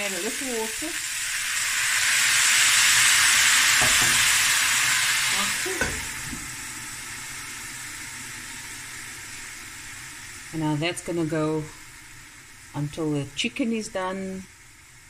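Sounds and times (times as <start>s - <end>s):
water hissing in hot pan: 0.0s - 15.0s.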